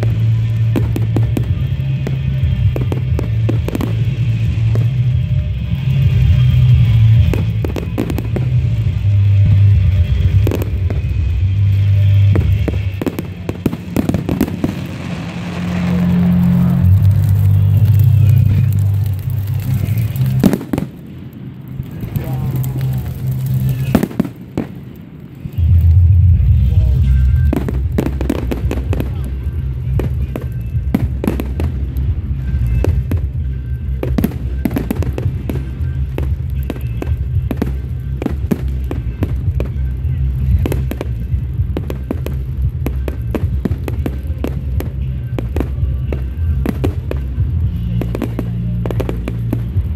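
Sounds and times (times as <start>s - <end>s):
fireworks bangs and crackles: 0.0s - 49.9s
low rumble: 0.0s - 49.9s
low steady drone: 0.0s - 49.9s
music playing: 0.0s - 49.9s.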